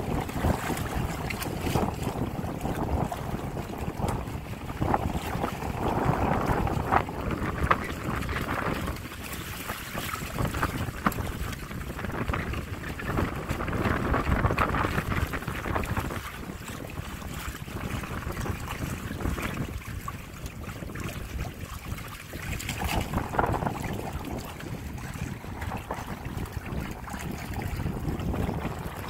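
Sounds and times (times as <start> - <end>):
water splashing against hulls: 0.0 - 29.0
wind buffeting microphone: 0.0 - 29.0.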